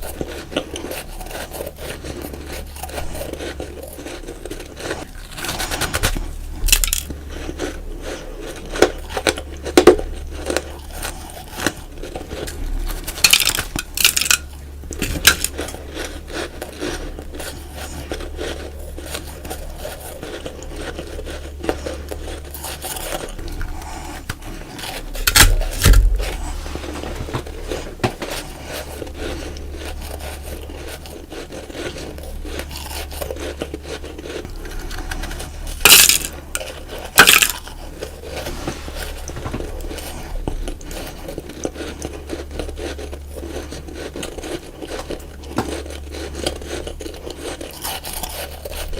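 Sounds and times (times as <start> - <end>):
crunchy biting and chewing: 0.0 - 48.9
steady low hum: 0.0 - 48.9.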